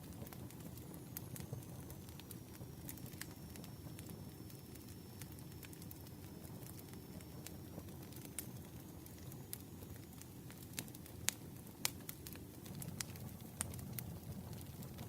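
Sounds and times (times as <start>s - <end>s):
burning wood crackling and popping: 0.0s - 15.0s
flames rushing: 0.0s - 15.0s.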